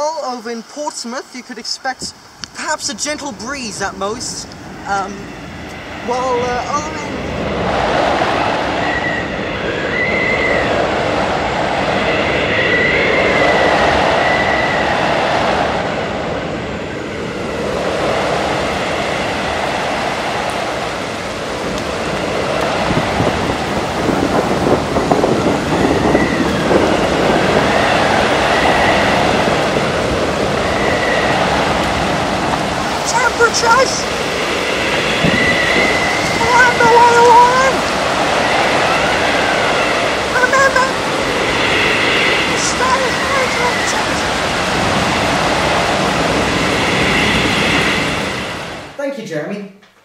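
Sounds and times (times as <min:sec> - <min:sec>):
strong gusting wind: 0:00.0 - 0:49.0
thin wind whistle: 0:01.8 - 0:49.0.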